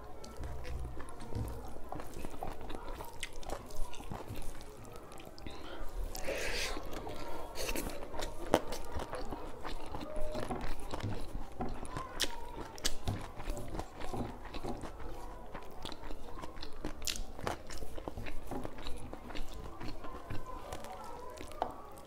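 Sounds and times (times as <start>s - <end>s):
chewing food: 0.0s - 22.0s
wet mouth clicks and crunches: 0.3s - 21.6s.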